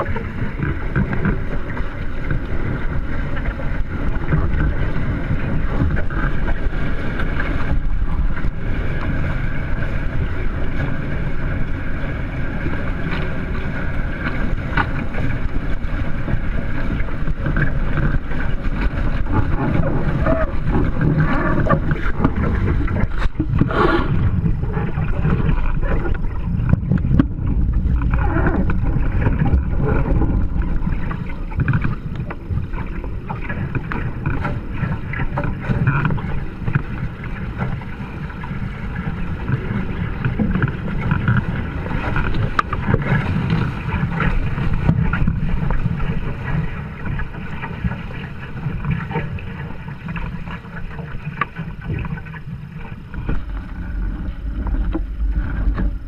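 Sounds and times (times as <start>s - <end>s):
wind buffeting microphone: 0.0s - 49.8s
water rushing along hulls: 0.0s - 56.0s.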